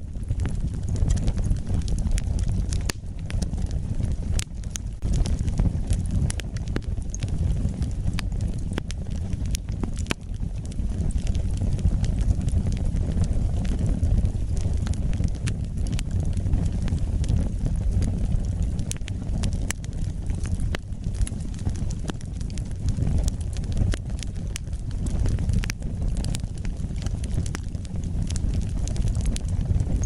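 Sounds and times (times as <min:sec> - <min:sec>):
fire crackling and popping: 0:00.0 - 0:30.0
wood fire rumbling: 0:00.0 - 0:30.0.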